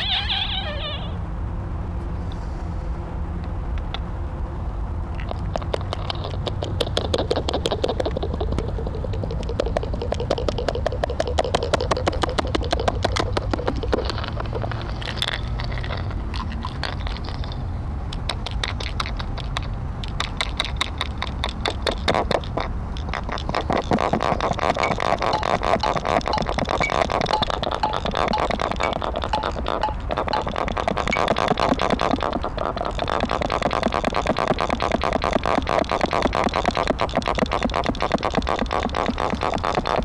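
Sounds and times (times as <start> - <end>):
scratchy scraping on sculpture: 5.2 - 17.6, 20.4 - 40.0.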